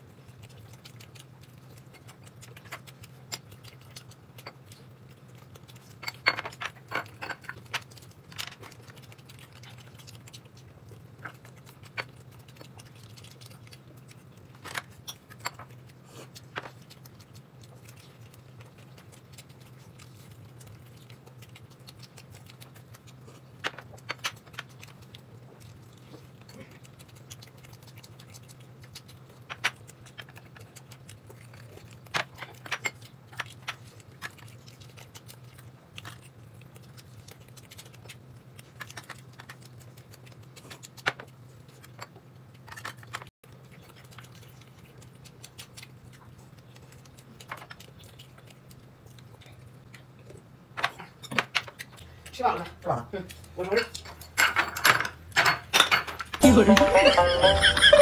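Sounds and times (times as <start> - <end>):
person chewing: 0.0 - 52.4.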